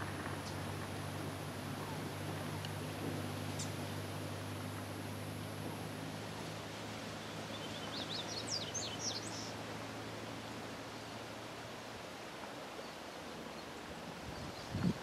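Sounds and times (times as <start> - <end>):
faint low hum: 0.0 - 15.0
steady outdoor hiss: 0.0 - 15.0.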